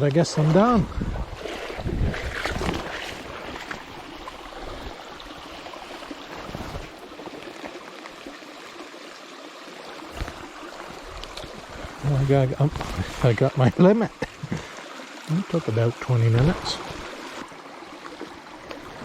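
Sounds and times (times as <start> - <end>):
river current running: 0.0 - 19.0.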